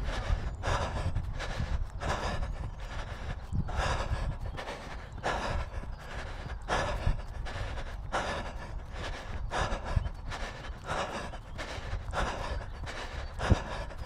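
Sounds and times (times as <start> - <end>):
runner breathing hard: 0.0 - 14.0.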